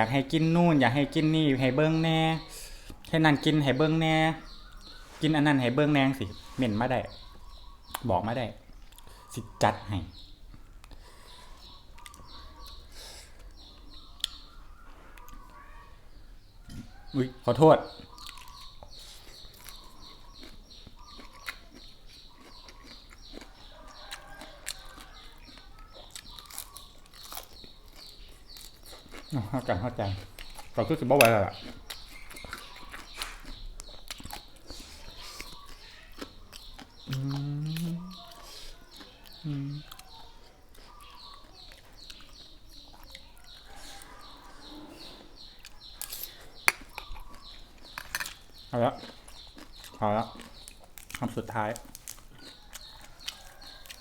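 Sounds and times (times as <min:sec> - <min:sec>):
bird chirping: 0:00.0 - 0:54.0
person chewing and crunching food: 0:06.3 - 0:09.4, 0:10.5 - 0:15.6, 0:17.9 - 0:54.0.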